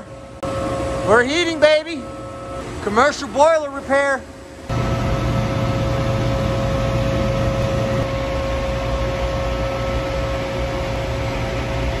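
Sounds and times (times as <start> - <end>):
boiler low hum: 0.0 - 12.0
inducer fan motor whine: 0.0 - 12.0
boiler burner rush: 0.1 - 12.0.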